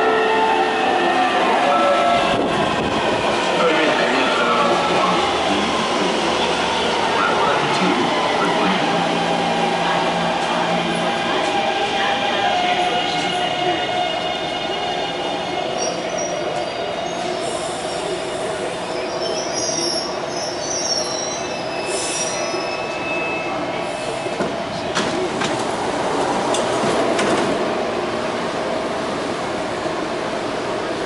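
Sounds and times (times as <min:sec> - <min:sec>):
train equipment humming and whining: 0:00.0 - 0:31.0.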